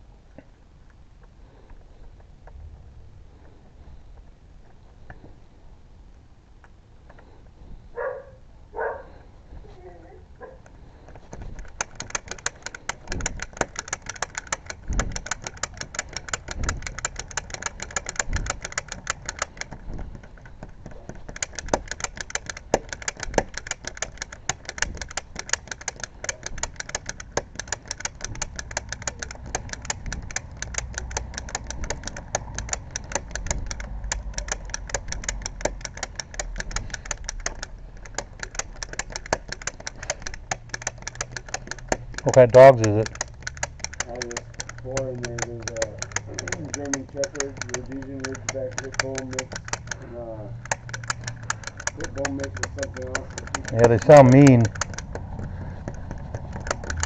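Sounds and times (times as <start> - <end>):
lock picks clicking: 10.6 - 57.0.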